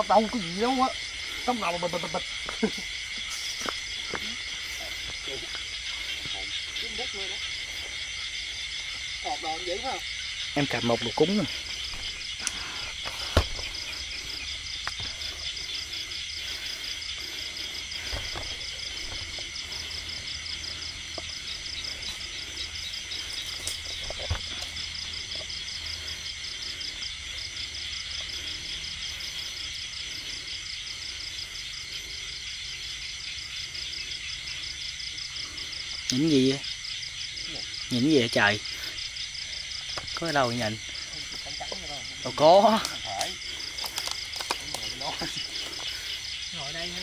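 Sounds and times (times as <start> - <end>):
crickets trilling: 0.0 - 47.0.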